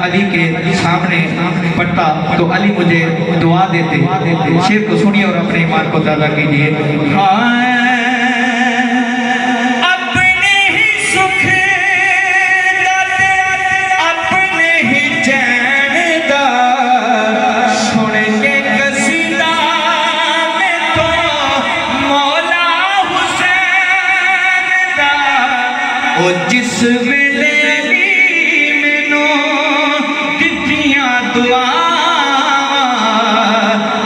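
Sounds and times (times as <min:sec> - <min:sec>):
man singing devotional song: 0:00.0 - 0:34.0.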